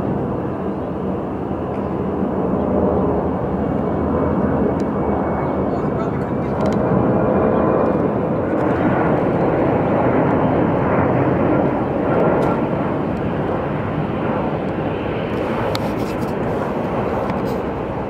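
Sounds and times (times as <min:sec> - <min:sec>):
jet aircraft passing low: 0:00.0 - 0:18.0.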